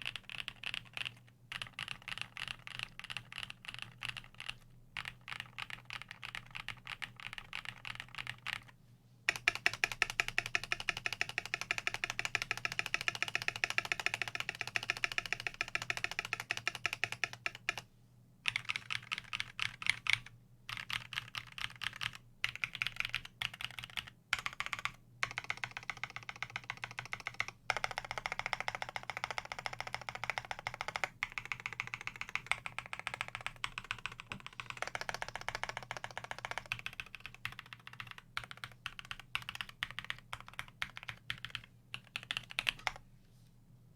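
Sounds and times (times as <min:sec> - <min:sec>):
fast typing on mechanical keyboard: 0:00.0 - 0:08.7, 0:09.3 - 0:17.8, 0:18.5 - 0:43.0.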